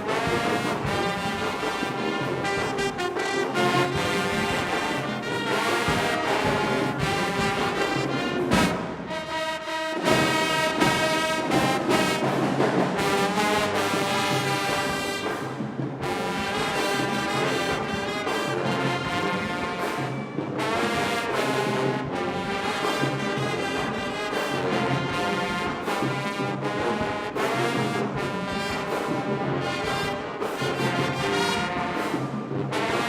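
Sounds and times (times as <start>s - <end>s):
marching band brass playing: 0.0s - 33.0s.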